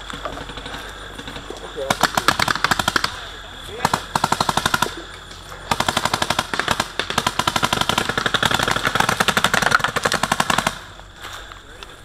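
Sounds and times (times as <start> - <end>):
paintball markers rapid firing: 0.0 - 5.0, 5.7 - 11.0.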